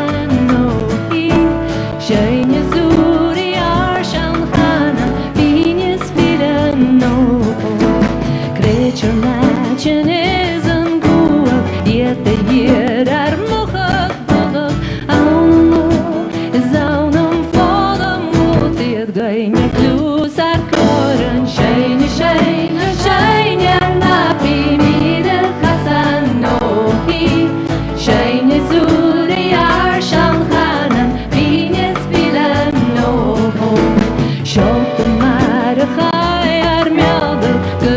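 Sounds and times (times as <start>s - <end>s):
folk band playing: 0.0s - 37.9s
woman singing with vibrato: 0.0s - 37.9s.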